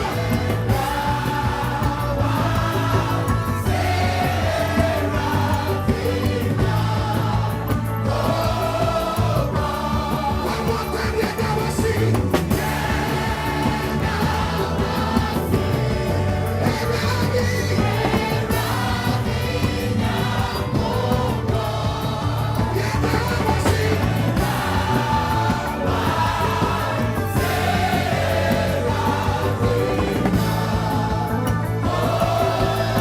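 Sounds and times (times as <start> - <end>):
bass and drum beat: 0.0 - 33.0
gospel choir singing: 0.0 - 33.0.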